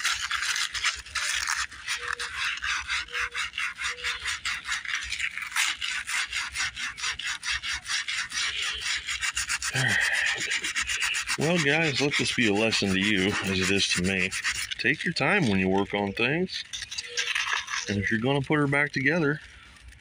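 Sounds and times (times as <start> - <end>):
sandpaper rasping on metal: 0.0 - 19.9.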